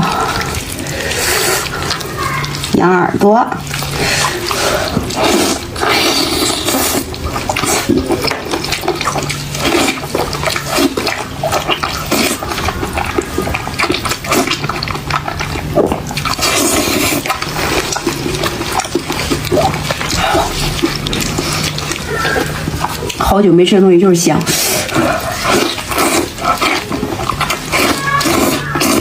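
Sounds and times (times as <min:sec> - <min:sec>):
person chewing and smacking: 0:00.0 - 0:02.8, 0:03.5 - 0:23.5, 0:24.1 - 0:29.0.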